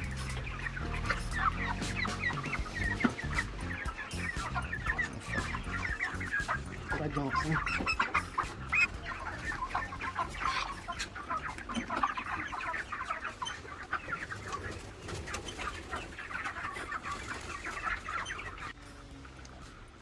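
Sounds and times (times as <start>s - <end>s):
chickens peeping and clucking: 0.0s - 20.0s.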